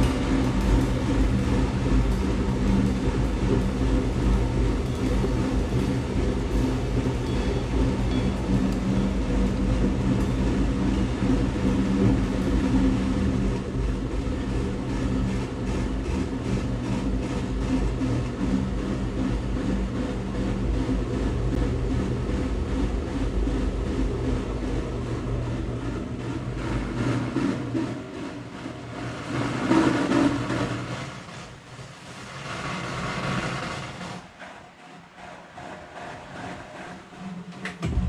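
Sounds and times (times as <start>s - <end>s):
electrical hum: 0.0s - 31.0s
train running rumble: 0.0s - 38.0s.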